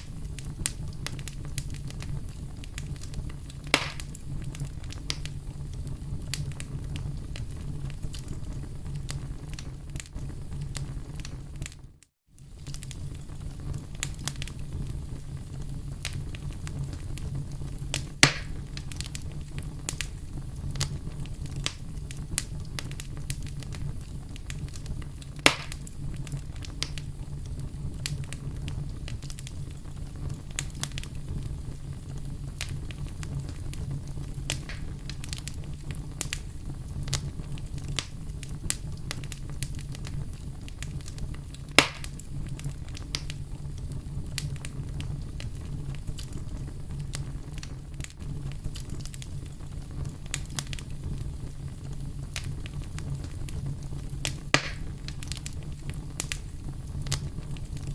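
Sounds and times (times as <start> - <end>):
fire pops and sharp snaps: 0.0 - 57.9
wood fire crackling: 0.0 - 57.9.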